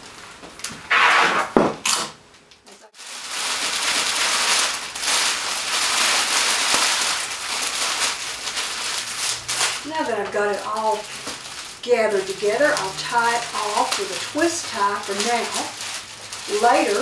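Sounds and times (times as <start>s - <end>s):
cellophane crinkling: 2.9s - 17.0s.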